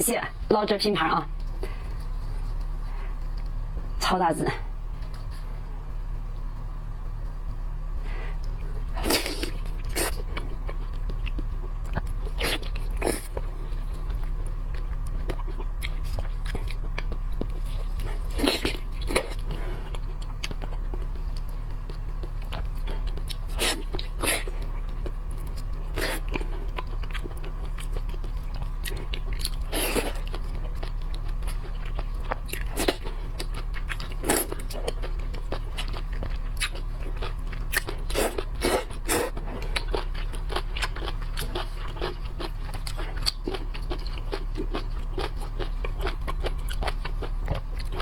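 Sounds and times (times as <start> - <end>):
low hum: 0.0 - 48.0
chewing shellfish crunches: 8.4 - 48.0.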